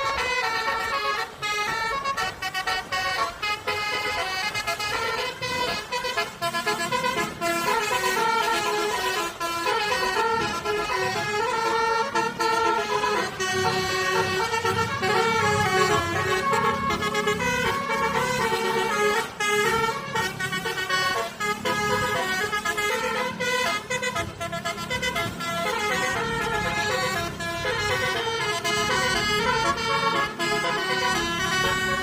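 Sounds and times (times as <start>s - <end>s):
bus musical horn playing tune: 0.0s - 32.0s.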